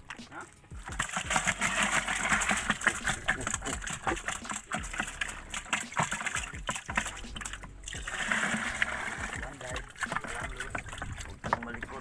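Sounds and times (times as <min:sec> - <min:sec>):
water splashing in a boat: 0:00.0 - 0:12.0.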